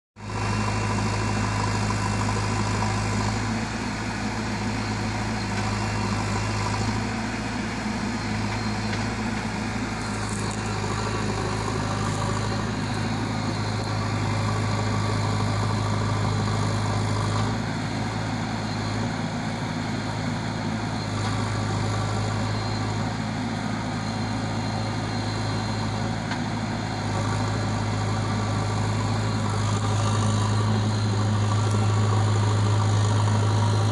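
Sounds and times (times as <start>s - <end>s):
heavy diesel engine running: 0.2s - 33.9s.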